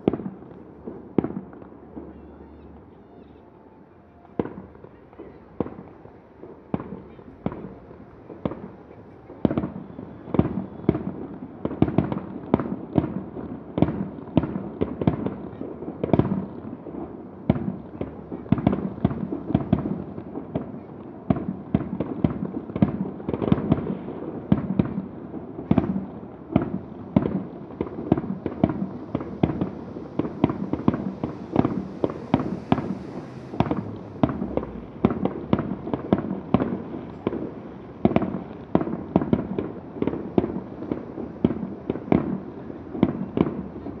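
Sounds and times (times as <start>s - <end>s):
fireworks booming with echo: 0.0s - 3.5s, 4.3s - 44.0s.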